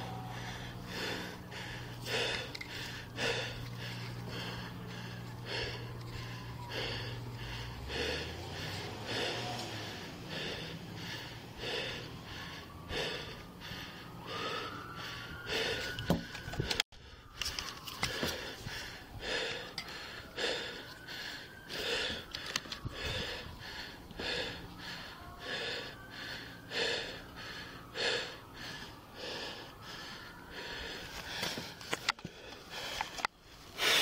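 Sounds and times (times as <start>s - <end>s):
person breathing heavily: 0.0s - 34.0s.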